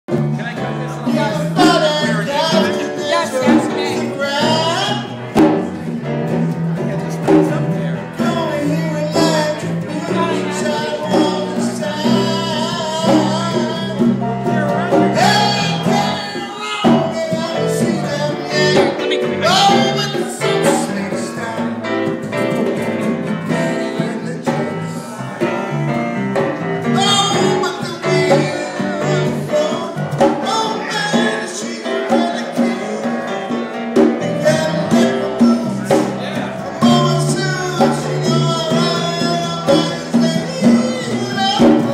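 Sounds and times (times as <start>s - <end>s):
conga drums: 0.1s - 41.9s
live band playing latin jam: 0.1s - 41.9s
person singing: 0.6s - 6.0s, 6.7s - 22.2s, 23.2s - 41.9s.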